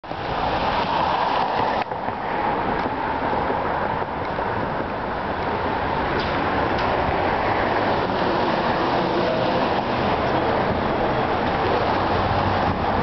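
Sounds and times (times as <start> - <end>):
street traffic rushing: 0.0 - 13.0.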